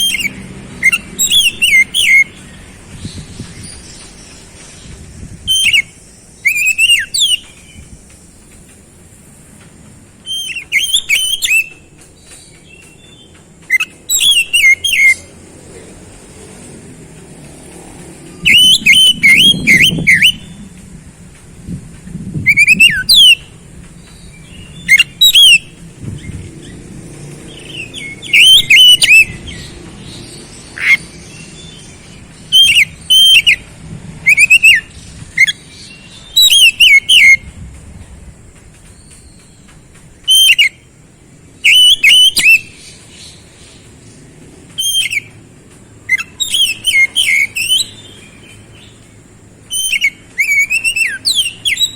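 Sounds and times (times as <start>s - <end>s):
bird singing whistled notes: 0.0s - 8.6s, 10.2s - 15.4s, 18.3s - 20.8s, 22.4s - 26.8s, 27.5s - 37.6s, 38.8s - 40.9s, 41.6s - 44.0s, 44.7s - 45.4s, 46.0s - 51.9s.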